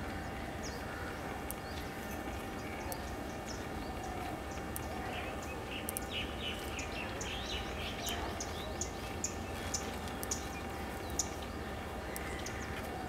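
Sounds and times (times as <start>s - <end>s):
bird chirping: 1.5s - 12.7s.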